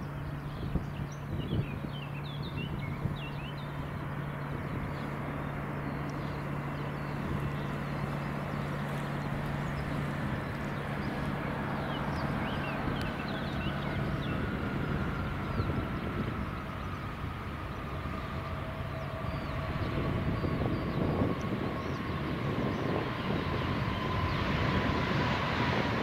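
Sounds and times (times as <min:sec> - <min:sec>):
small birds chirping: 0:00.0 - 0:24.8
jet engines droning: 0:00.0 - 0:26.0.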